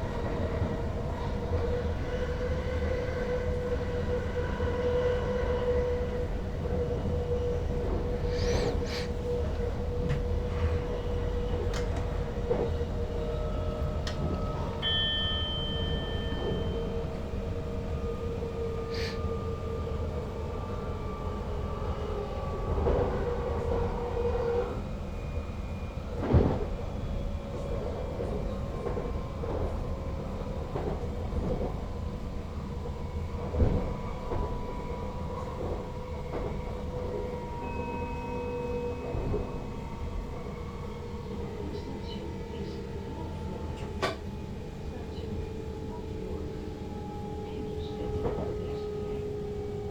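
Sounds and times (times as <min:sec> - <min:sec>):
wheels rumbling on rail: 0:00.0 - 0:49.9.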